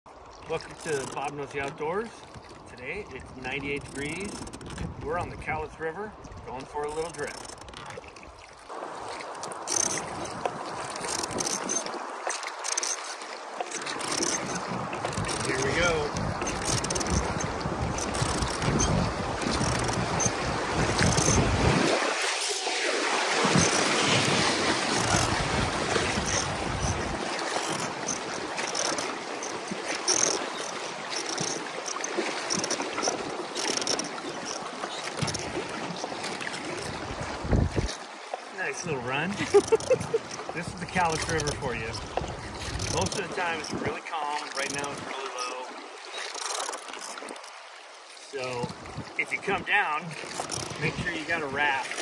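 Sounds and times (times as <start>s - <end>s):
oars splashing in water: 0.1s - 52.0s.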